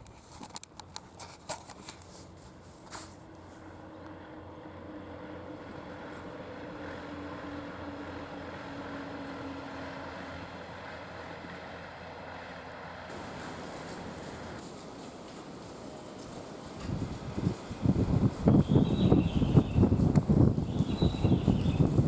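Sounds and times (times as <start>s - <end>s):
diesel railcar engine drone: 1.9s - 22.0s.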